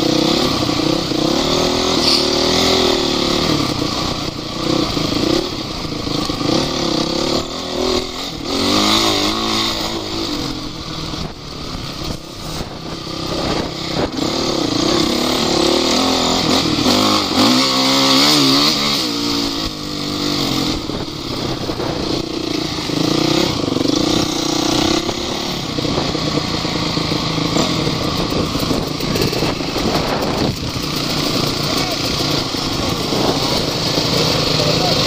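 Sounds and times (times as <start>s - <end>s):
off-road motorcycle engine revving: 0.0s - 35.0s.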